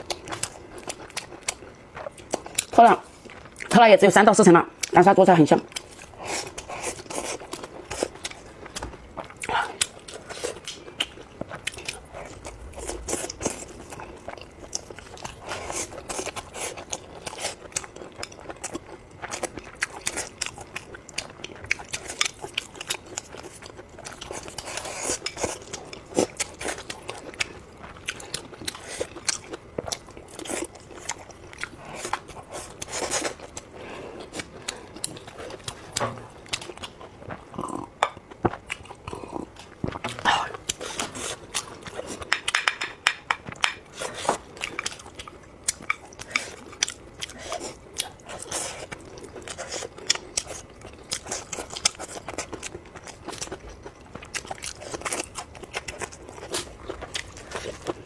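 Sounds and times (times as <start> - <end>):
person chewing crunchy food: 0.0 - 3.7, 5.7 - 58.0.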